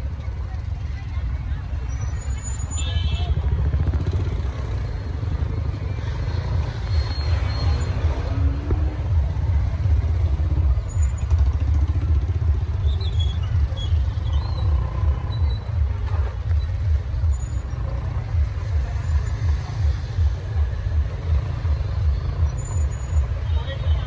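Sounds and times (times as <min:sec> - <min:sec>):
motorcycle engines rumbling: 0:00.0 - 0:24.0.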